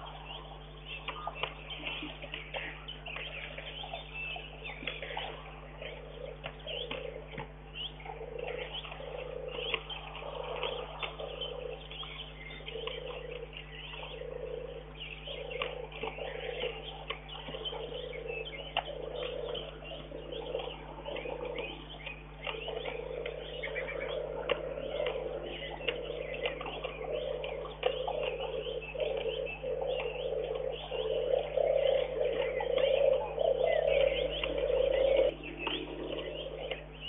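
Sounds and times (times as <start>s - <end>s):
birds singing and chirping: 0.0s - 37.0s
low wavering sound: 0.0s - 37.0s.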